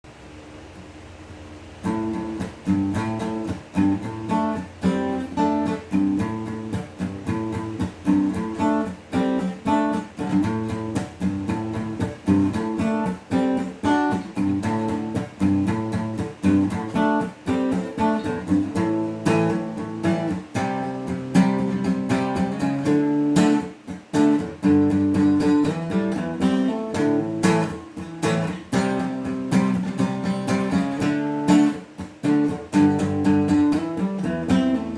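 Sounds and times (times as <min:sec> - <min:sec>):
acoustic guitar played solo: 0:01.8 - 0:34.9.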